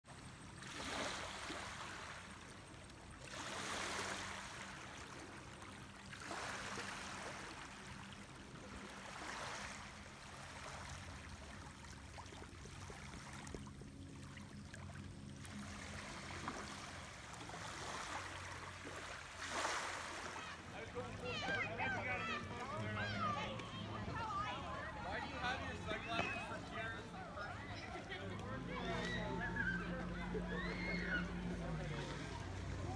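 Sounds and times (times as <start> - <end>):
faint steady low hum: 0.1 - 32.9
lake waves washing against shore: 0.6 - 32.9.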